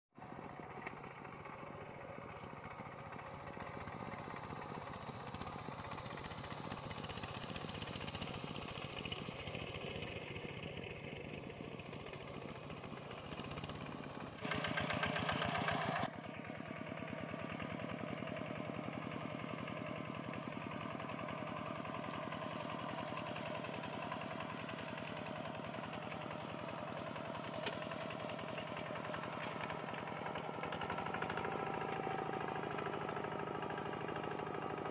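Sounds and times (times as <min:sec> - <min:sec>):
small engine running: 0:00.2 - 0:34.9.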